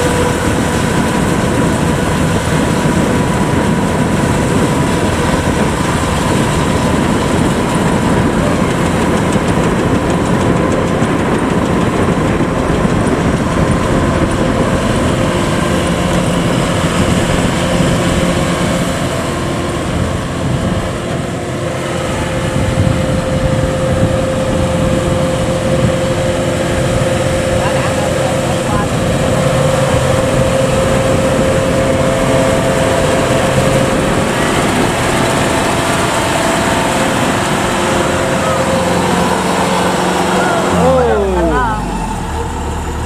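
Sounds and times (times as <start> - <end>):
combine harvester droning: 0.0 - 43.0.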